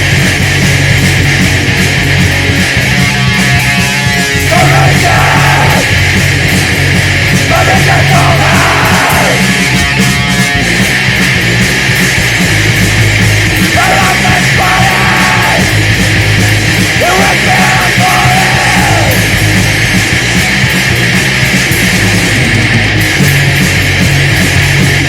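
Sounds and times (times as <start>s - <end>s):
yelled vocals: 0.0s - 22.6s
heavy distorted rock music: 0.0s - 25.0s.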